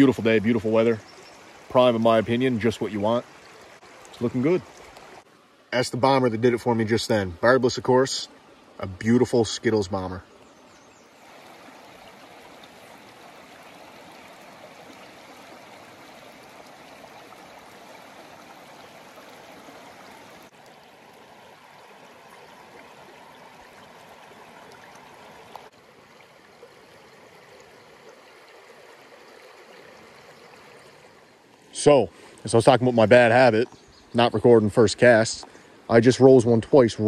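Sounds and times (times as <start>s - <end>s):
river current rushing: 0.0s - 33.3s.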